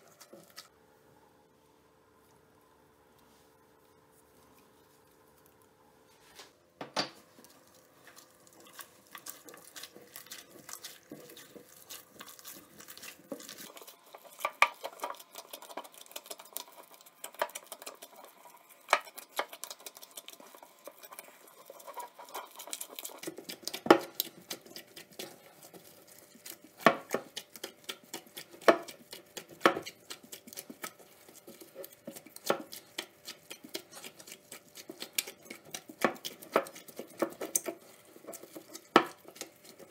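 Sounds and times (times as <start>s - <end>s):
dough squelching while kneaded: 0.0s - 6.6s, 7.2s - 39.9s.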